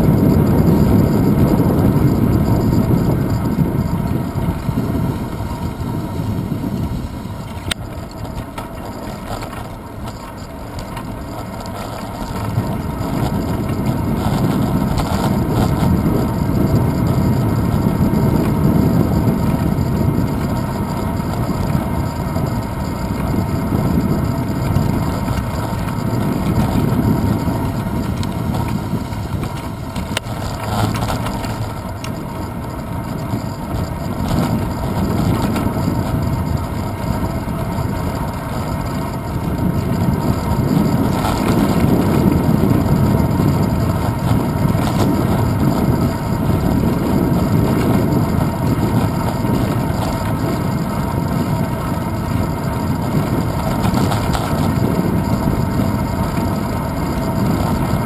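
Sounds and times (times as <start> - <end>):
bicycle road vibration: 0.0 - 58.0
wind rumble: 0.0 - 58.0.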